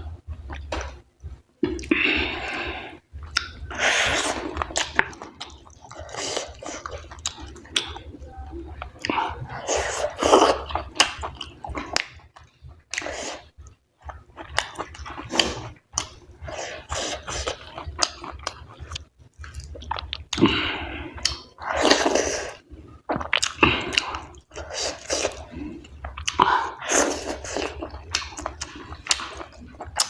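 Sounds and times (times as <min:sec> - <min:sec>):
person chewing wetly: 0:03.2 - 0:08.1, 0:08.7 - 0:30.0.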